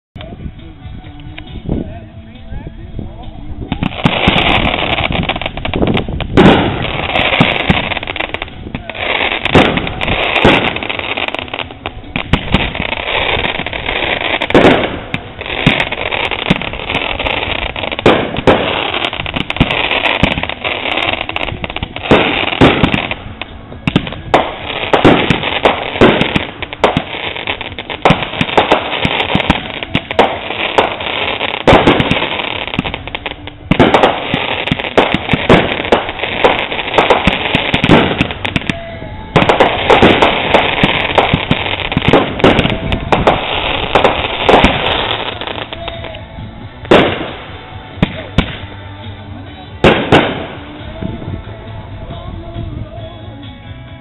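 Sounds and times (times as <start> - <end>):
fireworks crackling hiss: 3.1 - 51.7
fireworks bangs: 3.6 - 51.8.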